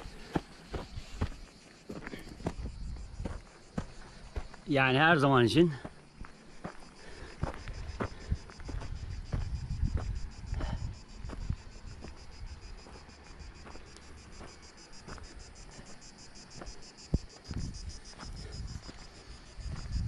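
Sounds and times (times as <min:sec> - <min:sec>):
footsteps on dirt path: 0:00.0 - 0:20.0
insects chirping: 0:00.0 - 0:20.0.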